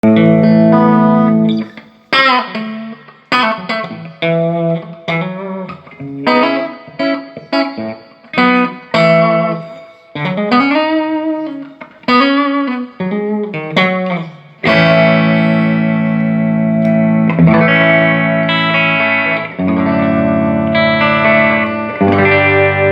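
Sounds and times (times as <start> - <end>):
electric guitar chords and notes: 0.0 - 22.9.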